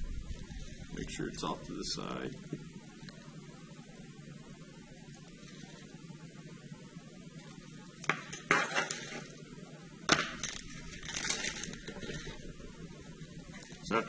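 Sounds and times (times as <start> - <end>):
rustling: 0.0 - 9.6, 10.2 - 14.0.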